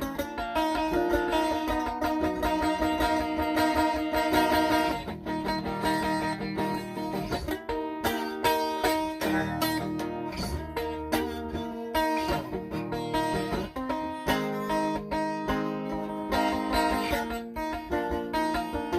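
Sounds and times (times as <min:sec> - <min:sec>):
plucked string instrument music: 0:00.0 - 0:18.9.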